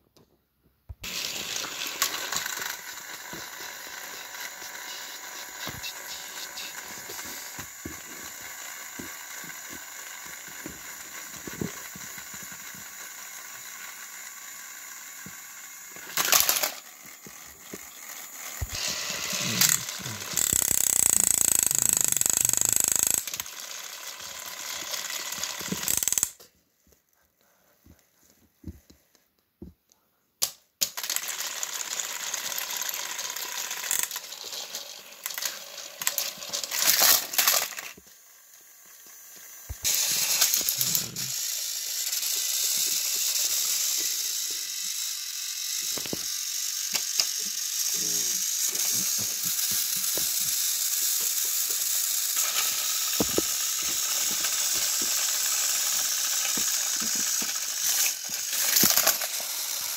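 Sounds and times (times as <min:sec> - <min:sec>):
gears rattling: 0:01.0 - 0:26.4, 0:30.8 - 0:38.0, 0:39.1 - 0:59.9
toy train motors whirring: 0:01.0 - 0:26.5, 0:30.4 - 0:59.9.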